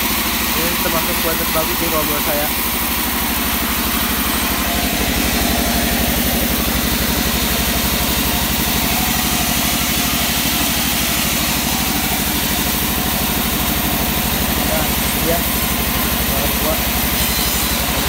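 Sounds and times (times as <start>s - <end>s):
band saw motor drone: 0.0s - 18.0s
saw blade cutting wood: 0.0s - 18.0s.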